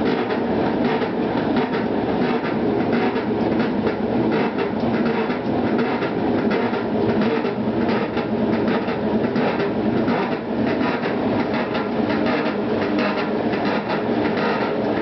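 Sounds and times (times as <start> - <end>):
washer rumble: 0.0 - 15.0.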